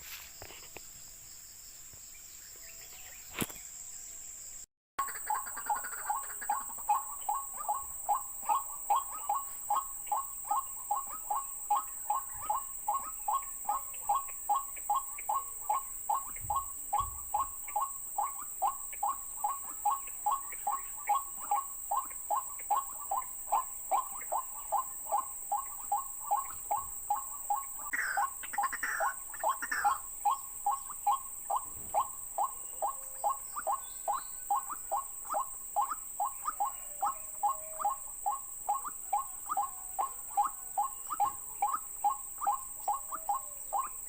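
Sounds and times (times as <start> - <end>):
waterhen call: 5.0 - 44.0.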